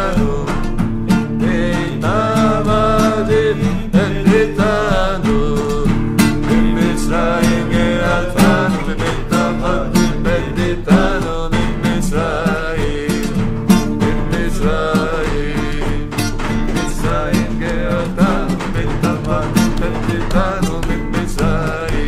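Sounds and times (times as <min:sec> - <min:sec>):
man singing: 0:00.0 - 0:22.0
strummed acoustic guitar: 0:00.0 - 0:22.0.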